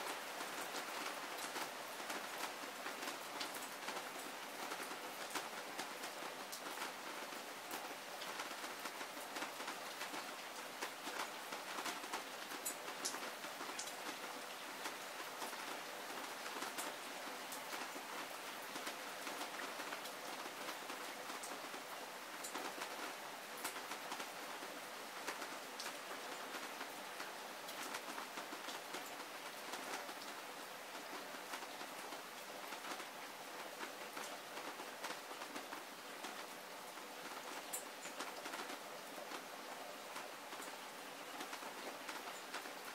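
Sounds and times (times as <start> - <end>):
heavy rain falling: 0.0 - 42.9
raindrops striking surfaces: 0.0 - 42.9.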